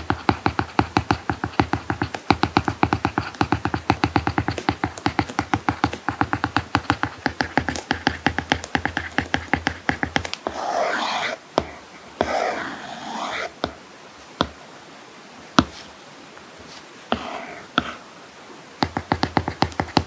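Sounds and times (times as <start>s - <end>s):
stylus tapping on screen: 0.0s - 13.8s, 14.4s - 14.6s, 15.6s - 15.8s, 17.1s - 18.0s, 18.8s - 20.0s.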